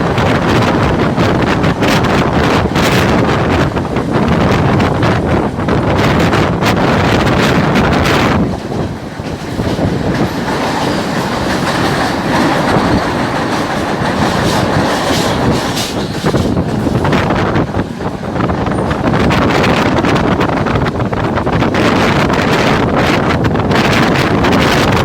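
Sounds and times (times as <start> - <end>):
train wheels rumbling on rails: 0.0 - 25.0
wheels clacking over rail joints: 0.0 - 25.0.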